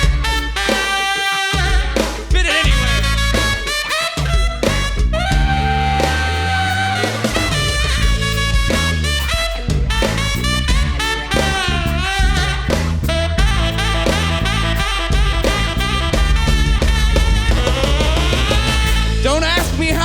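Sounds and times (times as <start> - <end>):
bass: 0.0 - 20.0
drum kit steady beat: 0.0 - 20.0
wavering lead melody: 2.6 - 20.0.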